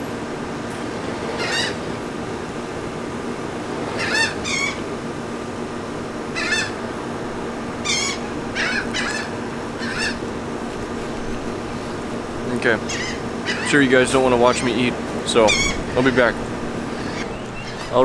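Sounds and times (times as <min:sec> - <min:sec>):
air conditioner humming: 0:00.0 - 0:18.0
gulls calling: 0:00.0 - 0:18.0.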